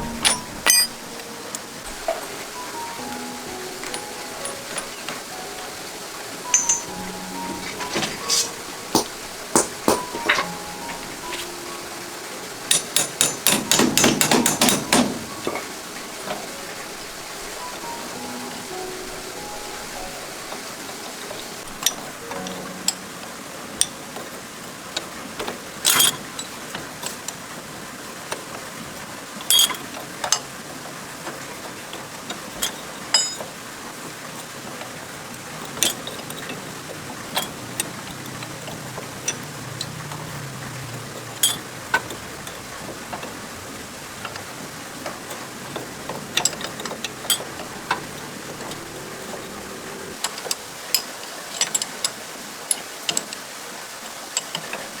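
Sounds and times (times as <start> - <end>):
hand tools clinking on metal: 0.0 - 18.6, 19.5 - 27.4, 29.4 - 33.7, 34.3 - 53.4
steady background hiss: 0.0 - 55.0.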